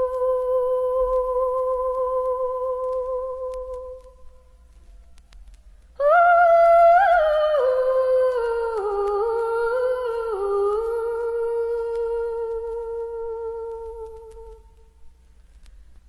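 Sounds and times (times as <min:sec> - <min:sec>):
person humming a slow melody: 0:00.0 - 0:04.5, 0:06.0 - 0:14.9.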